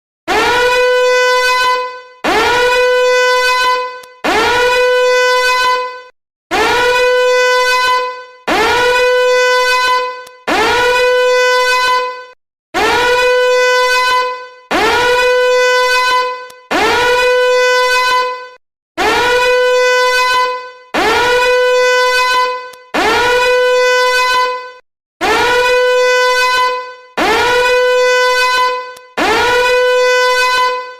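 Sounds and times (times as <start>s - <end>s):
harsh alarm blasts: 0.3s - 30.9s.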